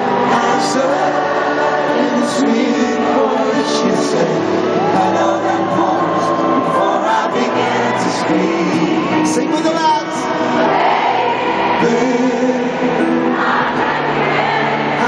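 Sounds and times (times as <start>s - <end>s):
man singing: 0.0s - 10.6s, 11.7s - 13.3s
guitar: 0.0s - 15.0s
piano: 0.0s - 15.0s.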